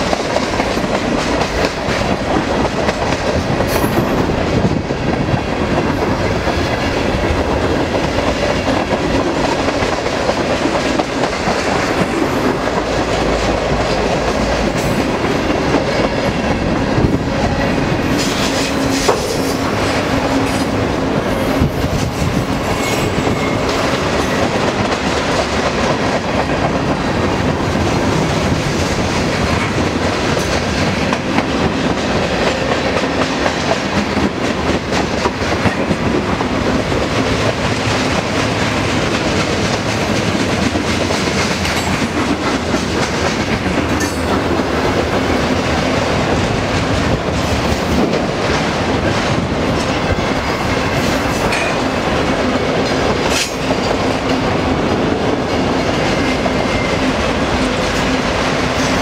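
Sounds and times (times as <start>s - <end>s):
freight train rumbling past: 0.0s - 59.0s
steel wheels clattering on rails: 0.0s - 59.0s.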